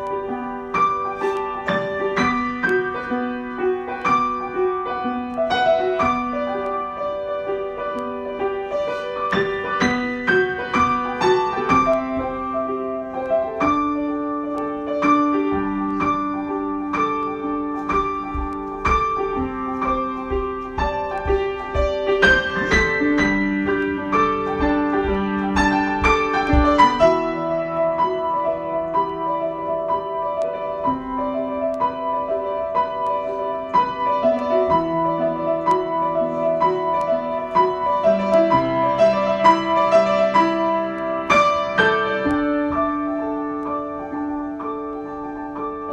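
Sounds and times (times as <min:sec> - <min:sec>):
solo piano: 0:00.0 - 0:45.9.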